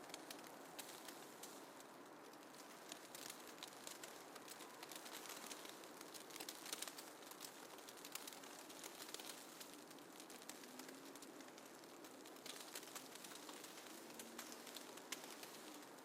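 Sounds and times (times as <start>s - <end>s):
soft hiss with crackling ticks: 0.0s - 16.0s.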